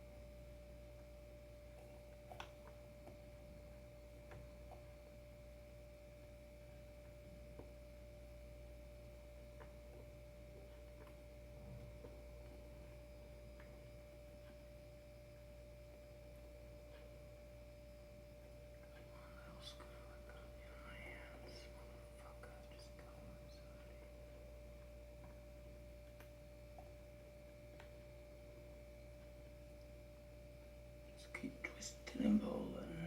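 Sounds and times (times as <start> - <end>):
faint steady tone: 0.0 - 33.0
low hum: 0.0 - 33.0.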